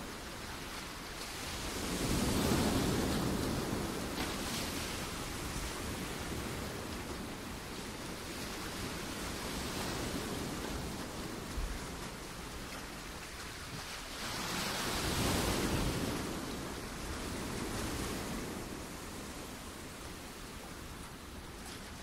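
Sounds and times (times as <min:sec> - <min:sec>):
wind rushing on microphone: 0:00.0 - 0:22.0.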